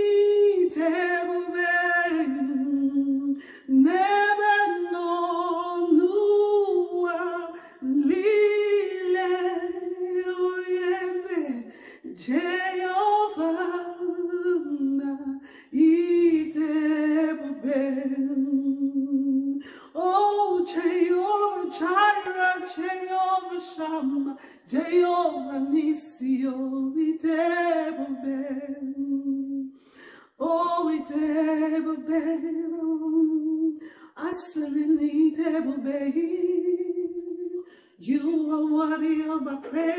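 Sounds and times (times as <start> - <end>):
woman singing unaccompanied: 0.0 - 29.7, 30.4 - 39.9.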